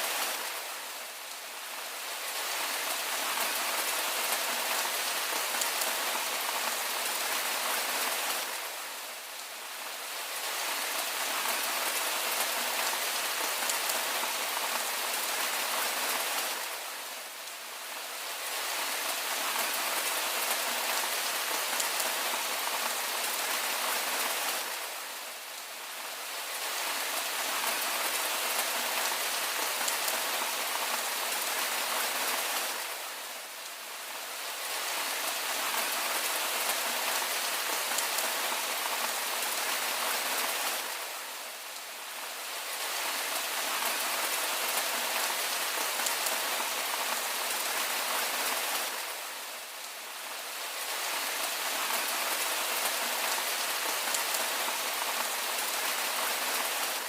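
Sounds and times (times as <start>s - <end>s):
dense rain falling: 0.0s - 57.0s.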